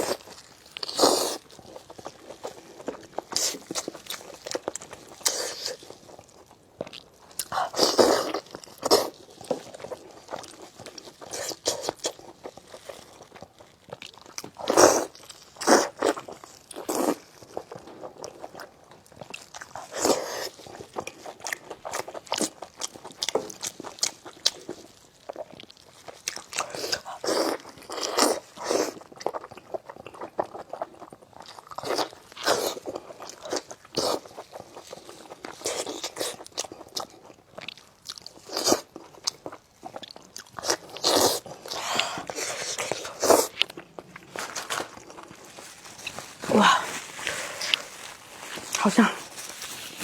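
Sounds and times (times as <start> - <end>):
chewing and biting meat: 0.0 - 50.0.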